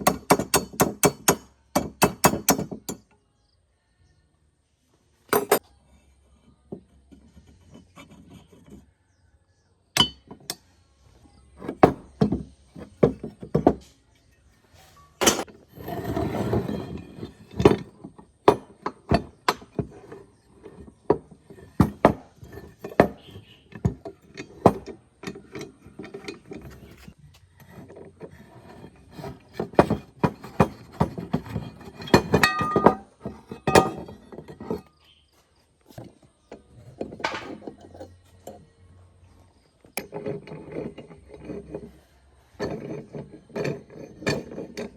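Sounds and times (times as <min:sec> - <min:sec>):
metal tools clinking and knocking: 0:05.3 - 0:08.9, 0:10.0 - 0:10.7, 0:11.3 - 0:35.1, 0:35.9 - 0:44.9.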